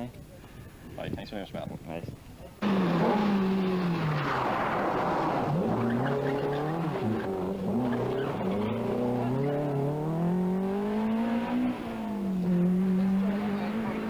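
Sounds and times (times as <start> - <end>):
rally car engine revving: 2.6 - 14.0.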